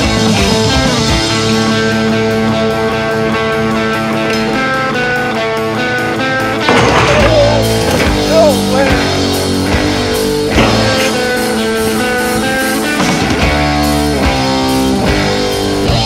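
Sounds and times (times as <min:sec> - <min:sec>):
rock music: 0:00.0 - 0:16.0
bending guitar note: 0:01.7 - 0:15.5.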